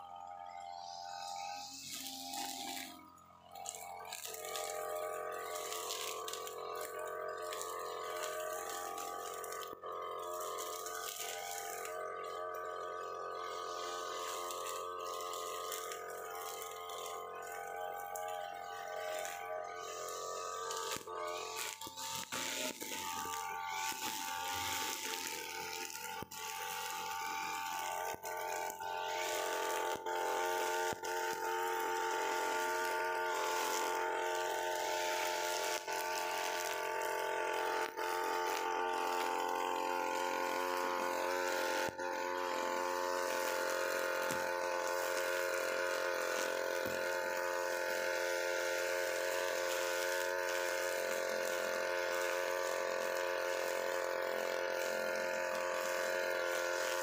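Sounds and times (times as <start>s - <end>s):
brushcutter engine running: 0.0s - 57.0s
nylon line cutting grass: 0.0s - 57.0s.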